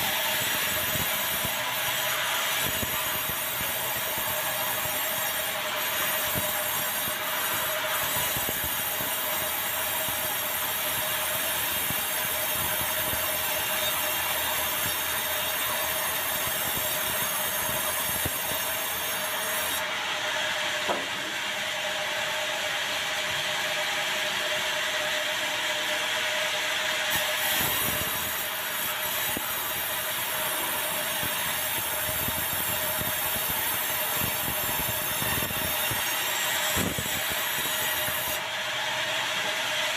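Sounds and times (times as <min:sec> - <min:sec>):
band saw cutting through a log: 0:00.0 - 0:23.1, 0:27.0 - 0:39.9.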